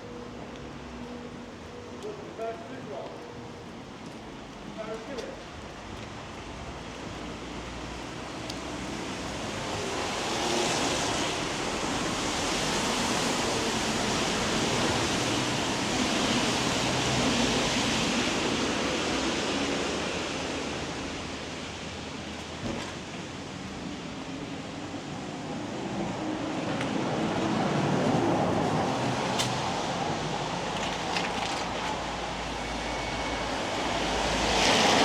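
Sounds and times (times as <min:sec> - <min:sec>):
tyres hissing on wet road: 0:04.2 - 0:35.0.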